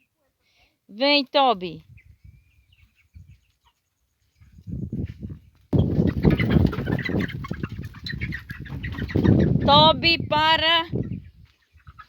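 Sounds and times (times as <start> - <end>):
chickens clucking in alarm: 1.9 - 12.0.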